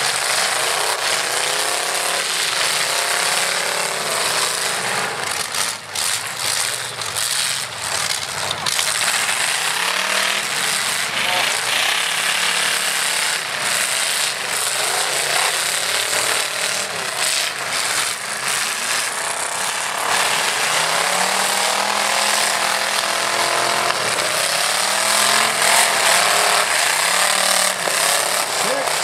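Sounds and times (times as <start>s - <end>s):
truck engines revving hard: 0.0s - 29.0s.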